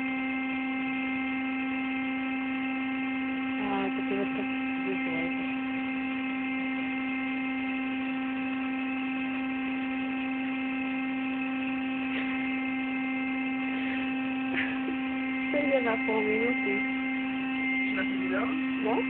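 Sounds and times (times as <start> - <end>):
electric air pump humming: 0.0 - 19.0.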